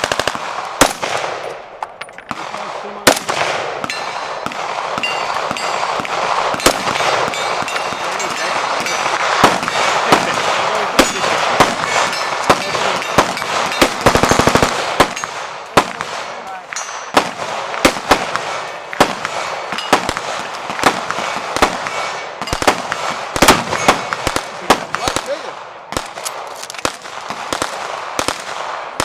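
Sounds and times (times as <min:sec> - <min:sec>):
full-auto gunfire burst: 0:00.0 - 0:01.7, 0:02.3 - 0:16.4, 0:17.1 - 0:29.0
single gunshots: 0:00.0 - 0:29.0.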